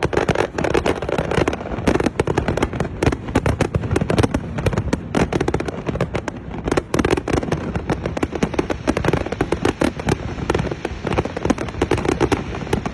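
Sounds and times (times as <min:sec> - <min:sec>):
fireworks bangs and crackles: 0:00.0 - 0:12.9.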